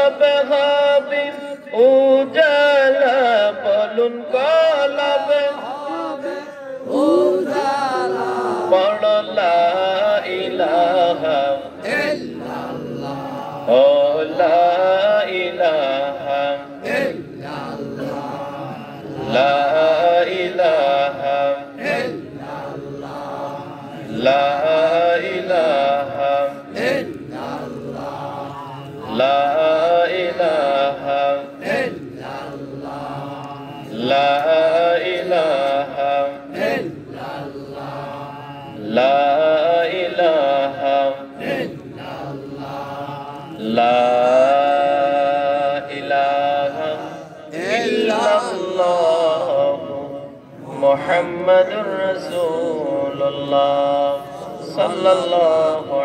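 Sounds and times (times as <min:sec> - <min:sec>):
man chanting through microphone: 0:00.0 - 0:56.0
quieter chanting: 0:00.0 - 0:56.0.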